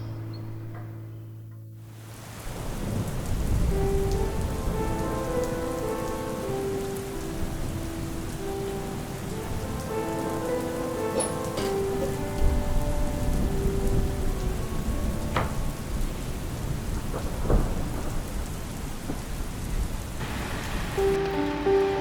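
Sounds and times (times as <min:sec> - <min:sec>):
rain falling on a surface: 0:01.8 - 0:22.0.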